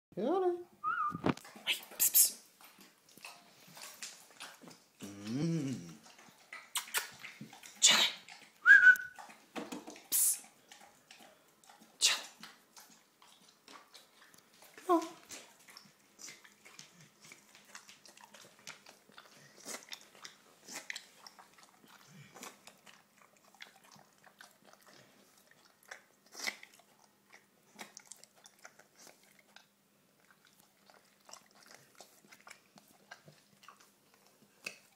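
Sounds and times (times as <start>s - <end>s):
dog licking and chewing: 1.2s - 34.9s.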